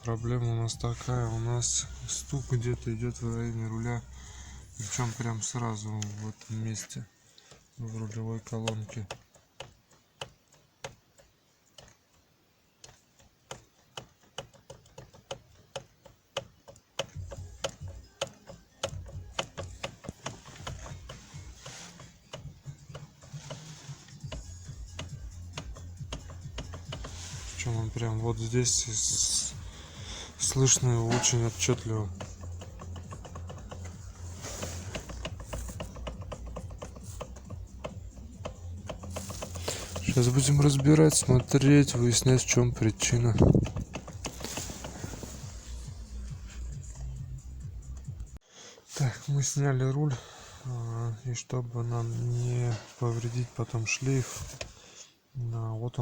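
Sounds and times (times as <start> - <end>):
steering column knocks and clicks: 0.8 - 12.2, 12.8 - 48.4.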